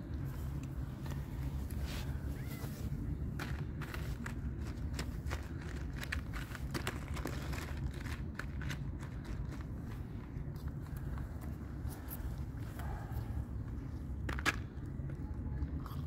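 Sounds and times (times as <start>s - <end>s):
cats crunching kibble: 0.0s - 16.0s
steady low rumble: 0.0s - 16.0s.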